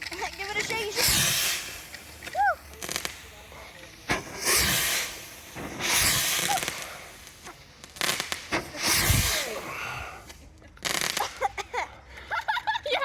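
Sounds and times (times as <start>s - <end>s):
fireworks crackling and hissing: 0.0s - 13.0s.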